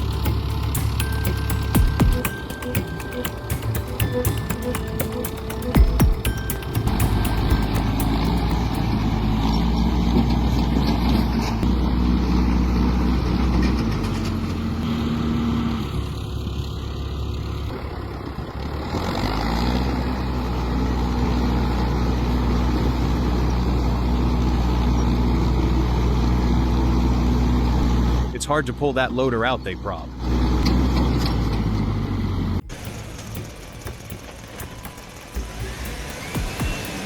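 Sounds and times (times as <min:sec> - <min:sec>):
heavy truck engine running: 0:00.0 - 0:29.3, 0:30.0 - 0:37.0.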